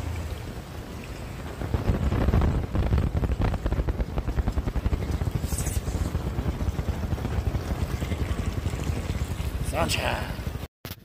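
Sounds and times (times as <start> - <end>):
boat motor chugging: 0.0 - 10.6.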